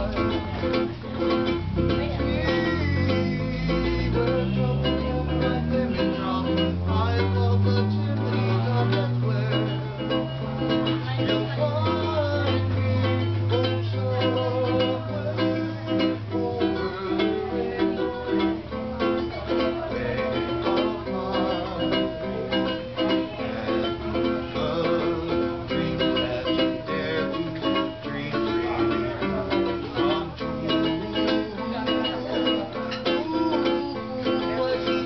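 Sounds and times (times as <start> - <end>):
ukulele strumming chords: 0.0 - 35.0.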